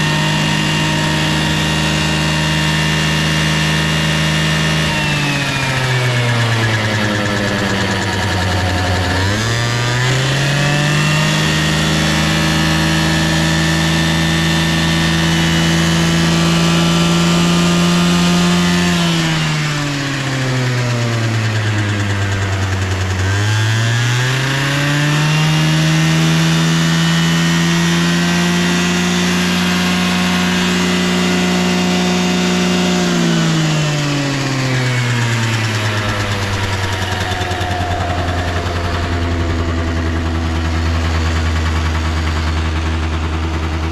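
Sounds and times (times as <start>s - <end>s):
scooter engine revving: 0.0s - 43.9s.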